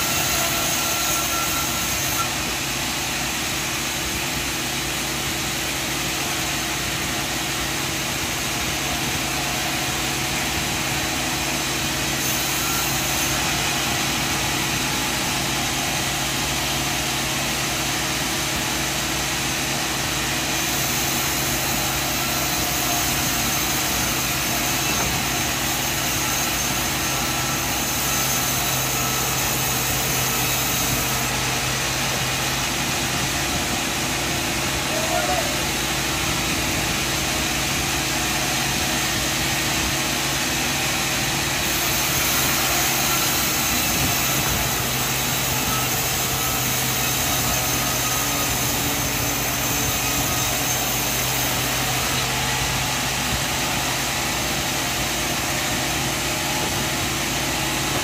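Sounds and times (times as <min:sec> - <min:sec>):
sawmill motor droning: 0:00.0 - 0:58.0.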